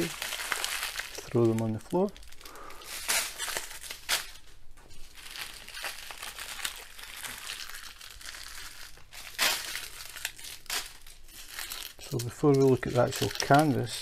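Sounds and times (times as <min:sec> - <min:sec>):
plastic bags rustling and sliding: 0:00.0 - 0:14.0.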